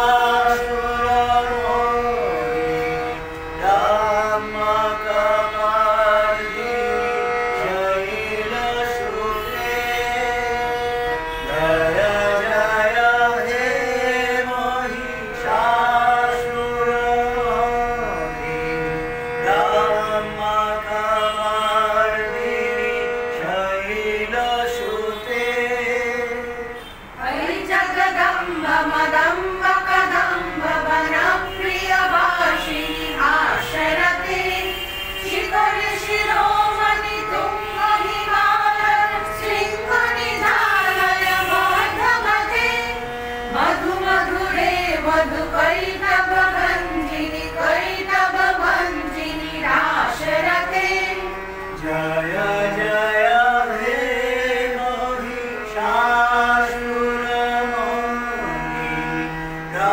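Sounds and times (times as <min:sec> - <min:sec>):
group of people singing: 0:00.0 - 0:59.9.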